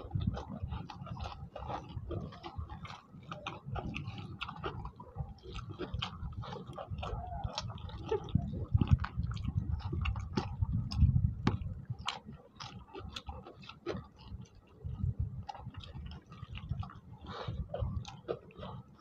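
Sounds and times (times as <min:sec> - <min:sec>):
close chewing: 0:00.0 - 0:19.0
wet smacking mouth sounds: 0:00.0 - 0:19.0.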